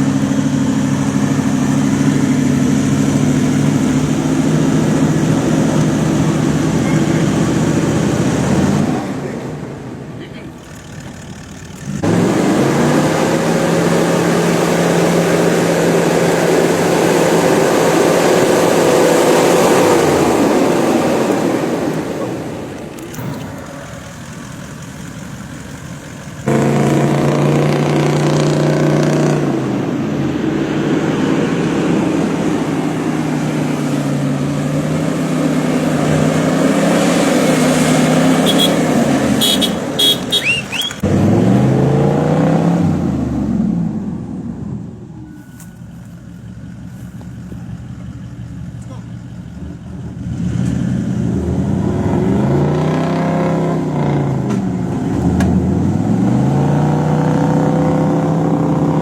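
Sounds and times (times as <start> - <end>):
diesel engine revving hard: 0.0 - 45.1, 48.3 - 59.0.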